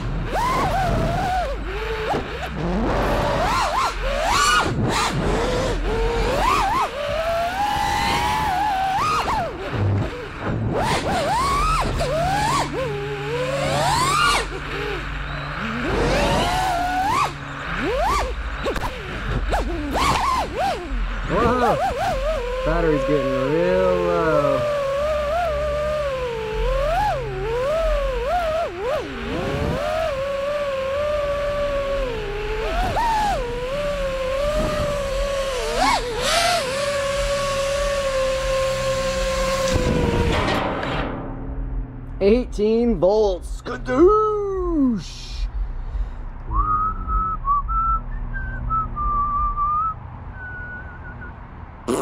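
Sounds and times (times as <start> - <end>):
drone motors whining: 0.0 - 42.8, 43.4 - 52.0.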